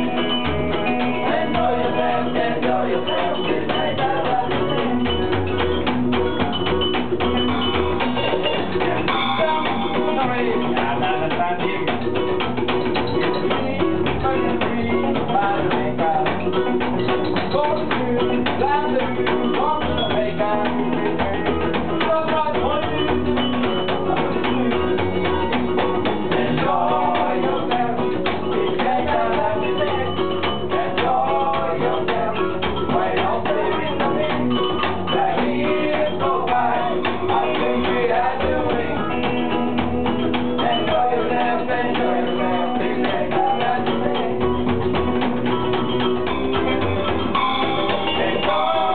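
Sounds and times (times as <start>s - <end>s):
electric guitar: 0.0s - 48.9s
hand percussion: 0.0s - 48.9s
plucked upright bass: 0.0s - 48.9s
strummed ukulele: 0.0s - 48.9s.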